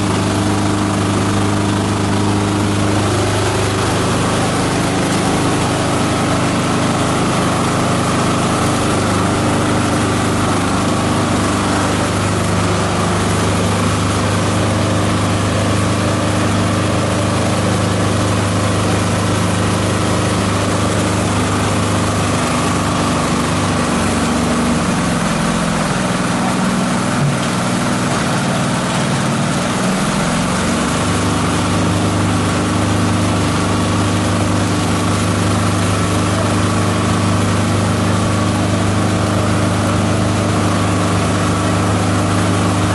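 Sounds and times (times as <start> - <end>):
shredder chopping plants: 0.0 - 42.9.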